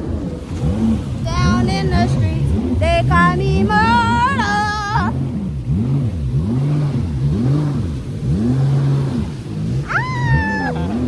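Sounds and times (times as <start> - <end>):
jet ski engine revving: 0.0 - 11.0.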